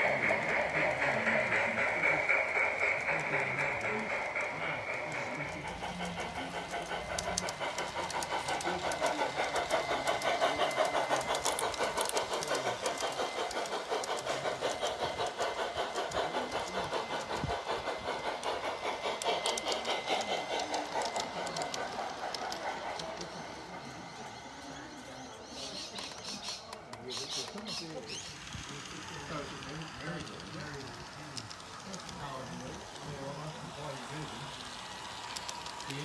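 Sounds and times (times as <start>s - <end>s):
model train wheels clicking: 0.0s - 36.0s.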